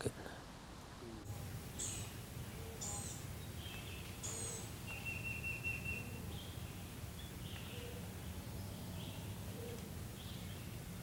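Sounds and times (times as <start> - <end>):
low steady background noise: 0.0 - 11.0
songbirds chirping: 0.9 - 11.0.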